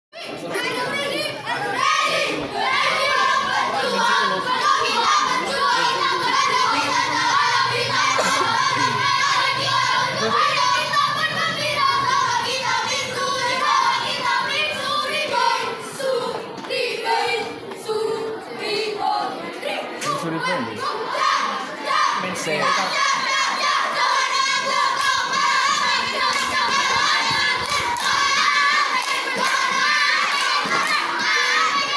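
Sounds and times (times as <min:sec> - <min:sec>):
children chanting in unison: 0:00.2 - 0:31.9.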